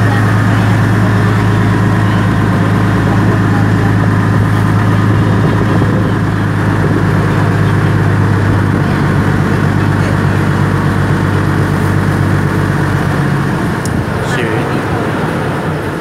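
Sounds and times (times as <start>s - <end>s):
ferry engine droning: 0.0s - 16.0s
water washing along hull: 0.0s - 16.0s.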